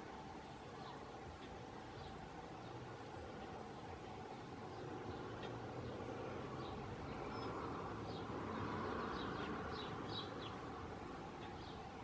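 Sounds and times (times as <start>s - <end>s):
steady background noise: 0.0s - 12.0s
small bird chirping: 0.4s - 12.0s.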